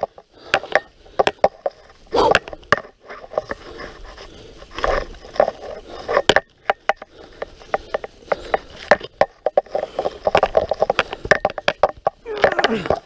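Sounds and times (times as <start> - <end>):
bike chain and frame rattling: 0.0 - 13.0.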